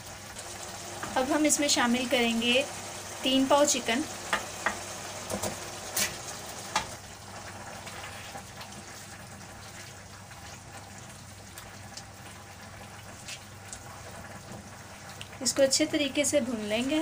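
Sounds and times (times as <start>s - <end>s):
masala sizzling: 0.0s - 17.0s.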